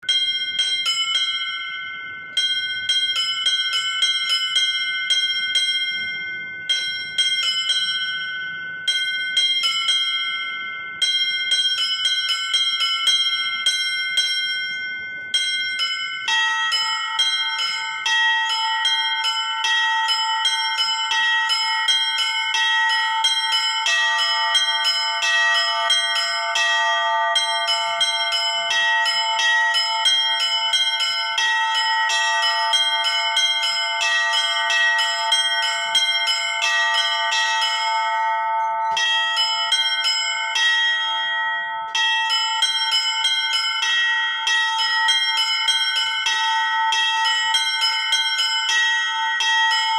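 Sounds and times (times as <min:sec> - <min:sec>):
lower-pitched bells ringing: 0:00.0 - 0:49.9
small high bells ringing: 0:00.0 - 0:49.9.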